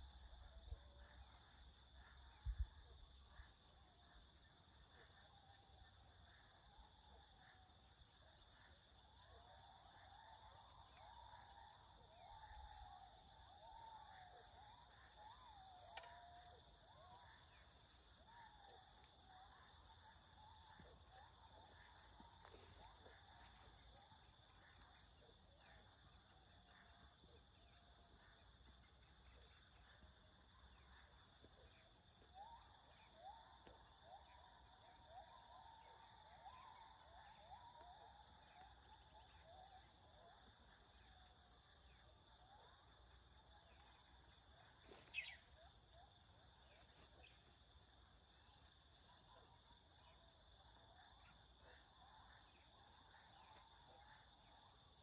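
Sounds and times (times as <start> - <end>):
faint wavering calls: 0.0 - 55.0.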